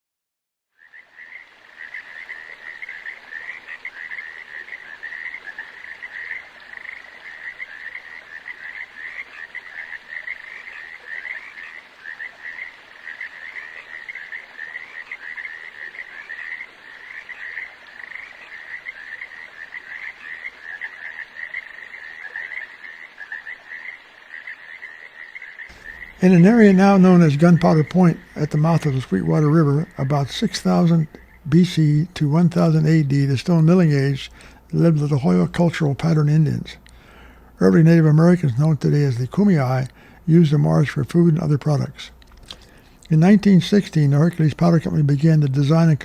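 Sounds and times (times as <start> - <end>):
frogs calling in chorus: 0.7 - 46.0.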